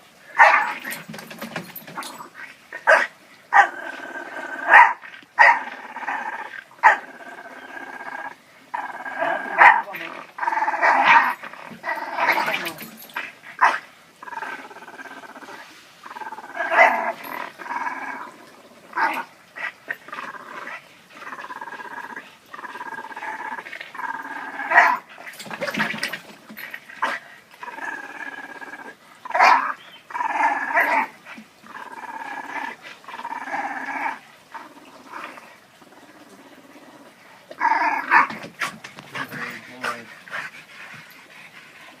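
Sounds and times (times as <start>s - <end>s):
dogs growling in play: 0.4s - 42.0s.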